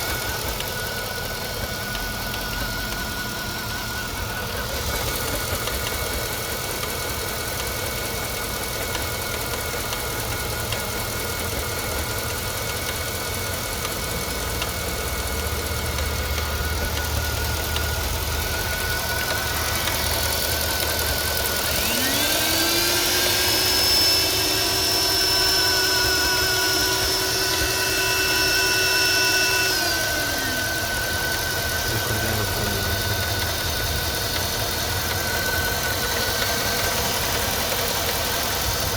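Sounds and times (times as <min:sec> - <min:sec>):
engine running with clatter: 0:00.0 - 0:38.9
engine whine: 0:00.0 - 0:38.9.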